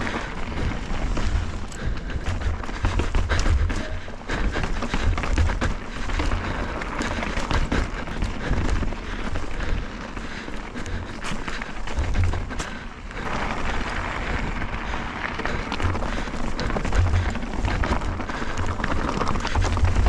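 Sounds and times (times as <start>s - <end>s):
bike knocking and rattling: 0.0s - 20.0s
tyres crunching over rock: 0.0s - 20.0s.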